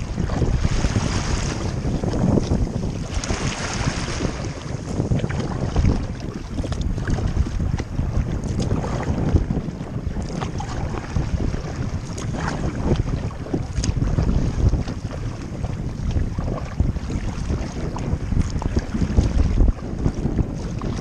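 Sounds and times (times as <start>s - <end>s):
water washing against kayak hull: 0.0s - 21.0s
wind buffeting microphone: 0.0s - 21.0s.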